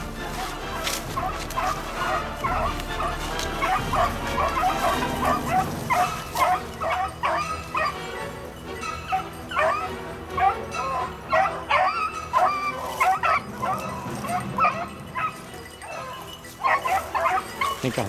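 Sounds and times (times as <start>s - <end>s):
hounds baying: 0.0s - 18.0s.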